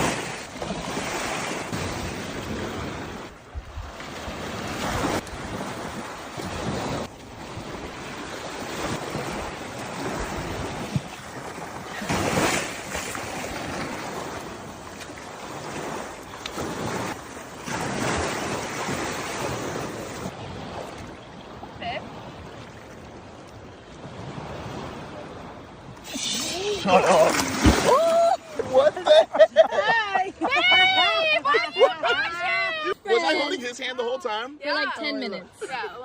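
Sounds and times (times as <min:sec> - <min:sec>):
waves washing in: 0:00.0 - 0:33.9.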